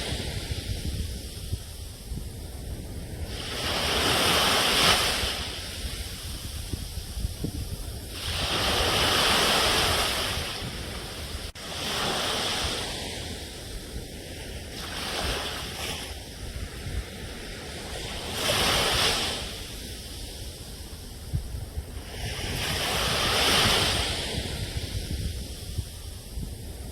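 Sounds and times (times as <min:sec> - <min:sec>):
sea waves washing onto shore: 0:00.0 - 0:26.9
wind on microphone: 0:00.0 - 0:26.9.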